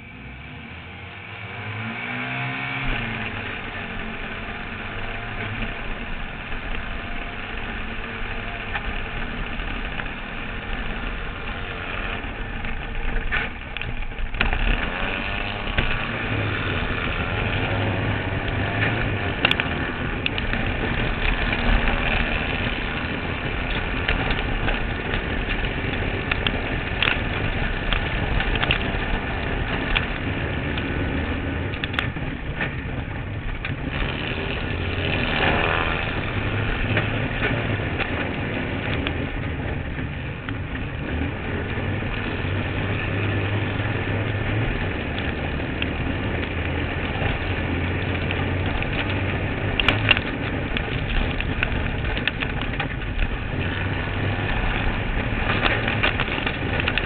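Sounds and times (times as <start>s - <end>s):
buggy engine running under load: 0.0s - 57.0s.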